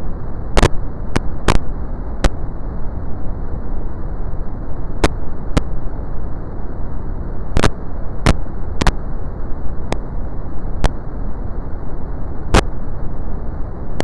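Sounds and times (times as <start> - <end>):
brown noise hiss: 0.0 - 14.0.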